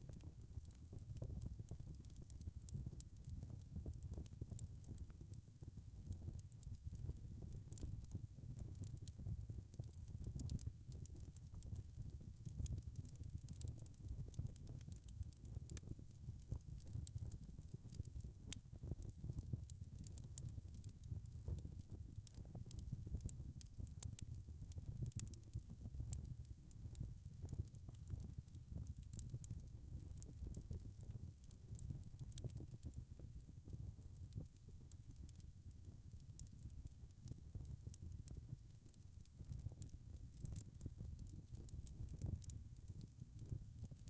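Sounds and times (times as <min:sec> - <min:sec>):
wood fire crackling: 0:00.0 - 0:35.4, 0:36.4 - 0:44.0.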